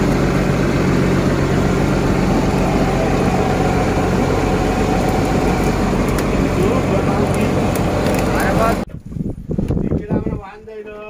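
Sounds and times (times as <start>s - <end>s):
boat engine humming: 0.0s - 8.9s.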